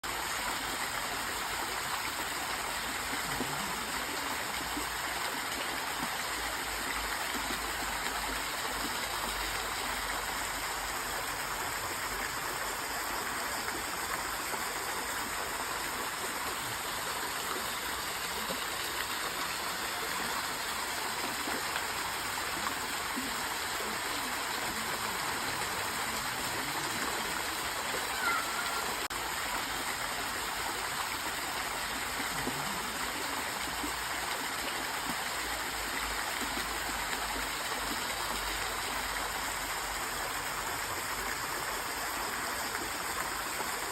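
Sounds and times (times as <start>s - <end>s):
stream flowing: 0.0s - 43.9s.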